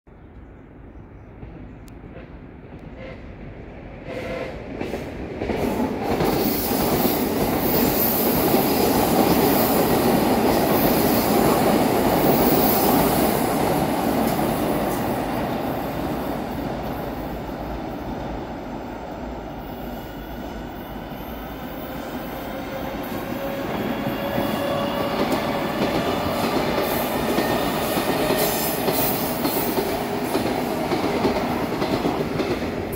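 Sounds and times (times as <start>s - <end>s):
train rumbling on rails: 0.5s - 32.9s.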